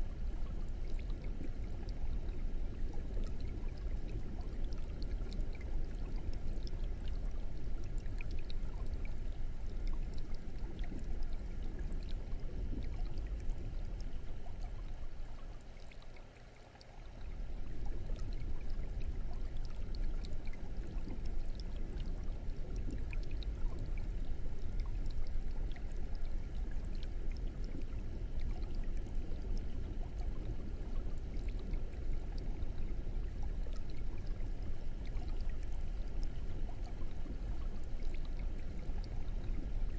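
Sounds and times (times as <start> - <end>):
aquarium air stone bubbling: 0.0 - 39.9.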